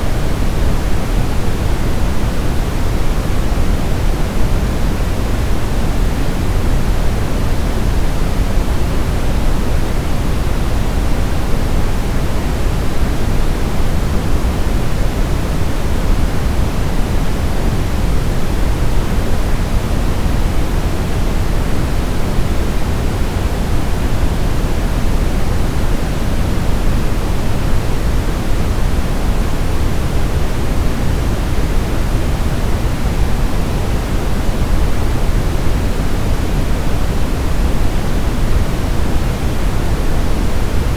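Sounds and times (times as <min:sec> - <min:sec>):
steady white noise hiss: 0:00.0 - 0:40.9.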